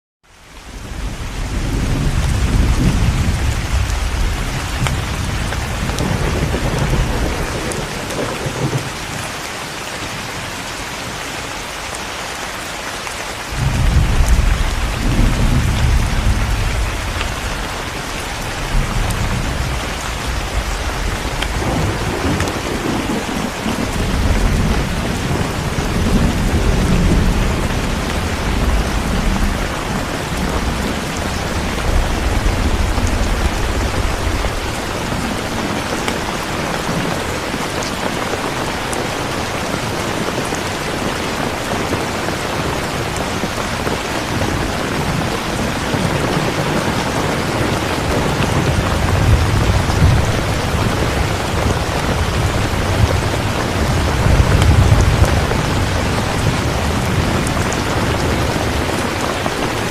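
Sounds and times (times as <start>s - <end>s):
rain hissing: 0.3s - 59.9s
rolling thunder: 0.8s - 9.4s, 13.5s - 40.4s, 41.0s - 59.9s.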